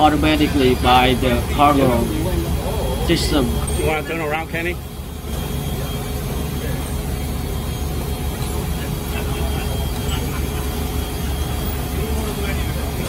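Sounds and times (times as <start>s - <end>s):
equipment engine drone: 0.0s - 13.0s
faint steady hum: 0.0s - 13.0s.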